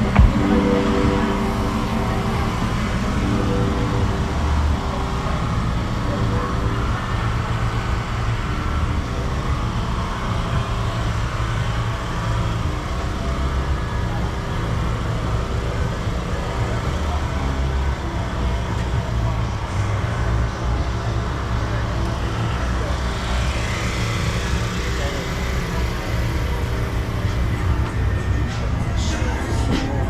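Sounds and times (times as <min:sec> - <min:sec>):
background voices: 0:00.0 - 0:30.0
car engine rumbling: 0:00.0 - 0:30.0.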